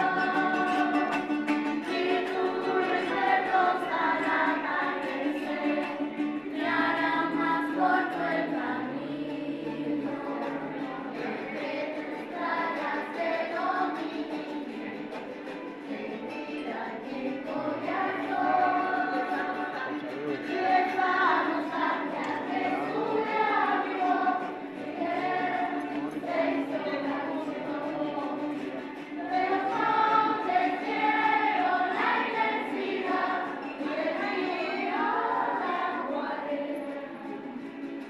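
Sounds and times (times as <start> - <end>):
children's choir singing: 0.0 - 38.0.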